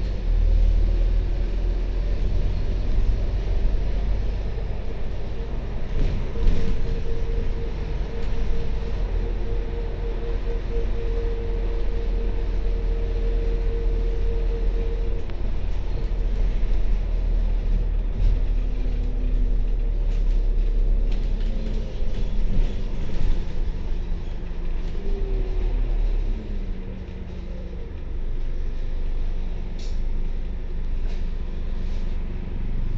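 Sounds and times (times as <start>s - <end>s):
bus engine and road rumble: 0.0s - 32.9s.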